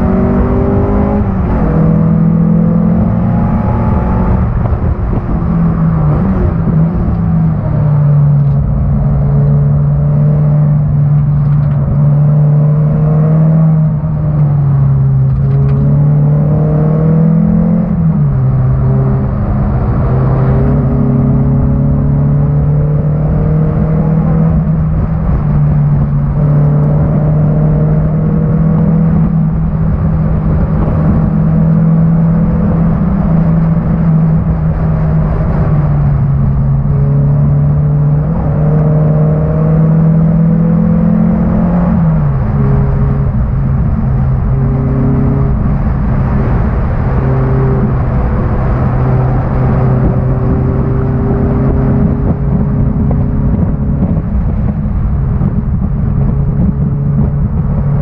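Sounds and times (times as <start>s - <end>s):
car engine revving hard: 0.0s - 58.0s
road noise rumble: 0.0s - 58.0s.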